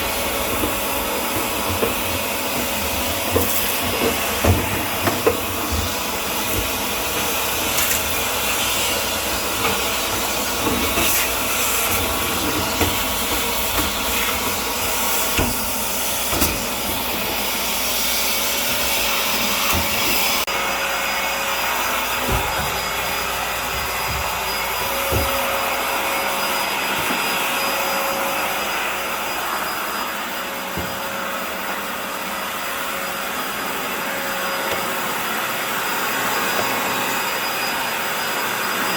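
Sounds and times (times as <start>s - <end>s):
vacuum motor running: 0.0s - 38.9s.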